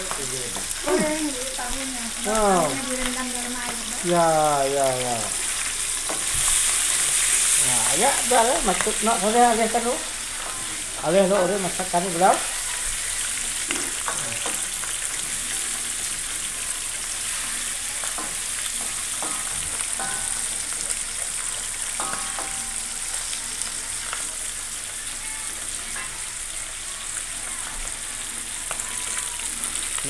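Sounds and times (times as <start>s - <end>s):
hot oil sizzling: 0.0s - 30.0s.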